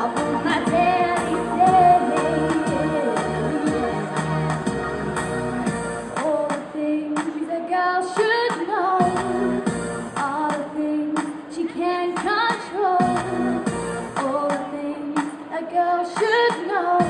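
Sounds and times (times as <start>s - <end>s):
woman singing pop song: 0.0s - 4.8s, 6.0s - 17.0s
backing music: 0.0s - 7.5s, 8.2s - 11.4s, 12.2s - 15.5s.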